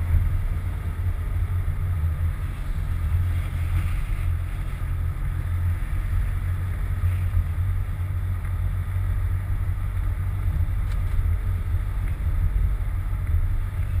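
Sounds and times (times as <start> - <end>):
road rumble: 0.0 - 14.0.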